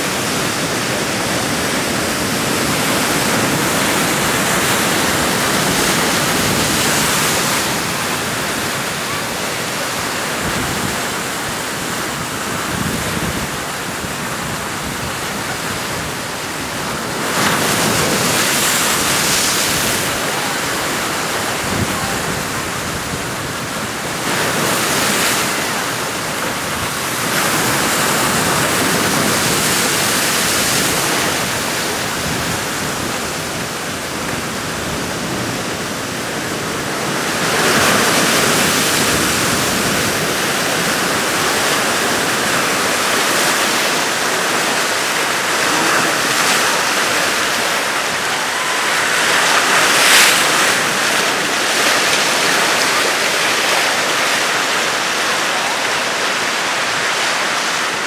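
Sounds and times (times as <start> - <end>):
surf breaking against rocks: 0.0 - 58.0.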